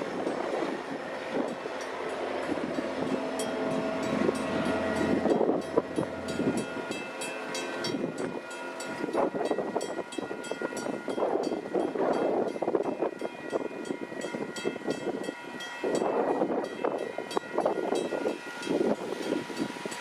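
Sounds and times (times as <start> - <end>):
crossing signal bells ringing: 0.0 - 20.0
train engine hum: 0.0 - 20.0.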